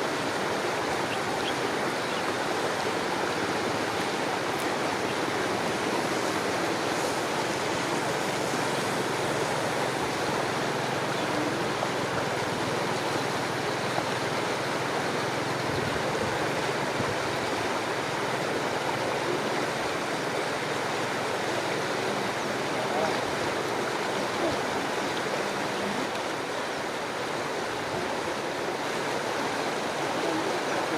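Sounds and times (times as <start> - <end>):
floodwater rushing: 0.0 - 30.9.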